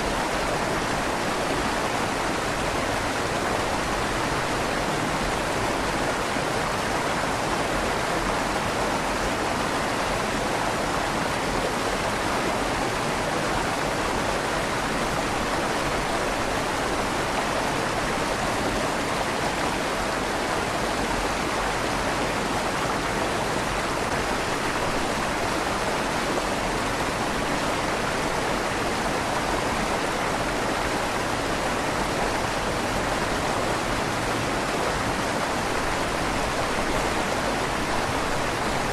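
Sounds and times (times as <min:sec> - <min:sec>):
river water flowing with echo: 0:00.0 - 0:38.9.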